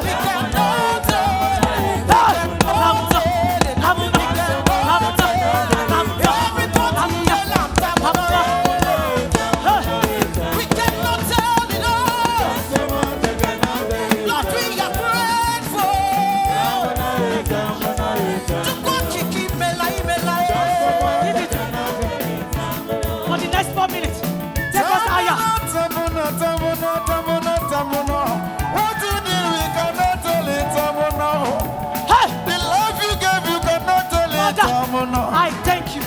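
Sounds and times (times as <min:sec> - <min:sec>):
band with drums and bass: 0:00.0 - 0:36.0
gospel singing: 0:00.0 - 0:36.0.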